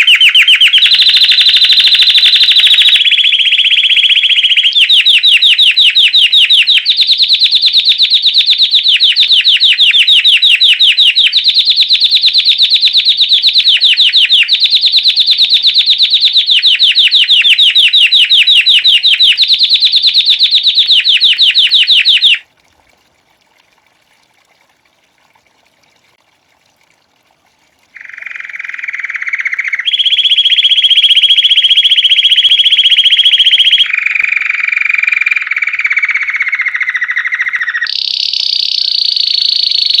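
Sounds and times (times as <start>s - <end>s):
canary singing trills: 0.0s - 22.4s, 28.0s - 40.0s.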